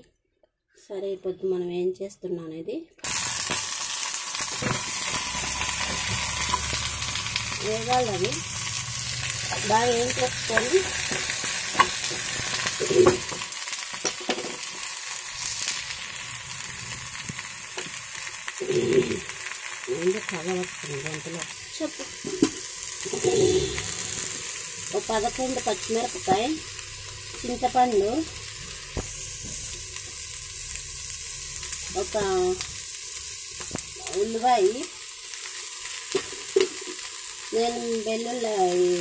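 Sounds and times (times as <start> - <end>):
vegetables sizzling in oil: 3.0 - 39.0.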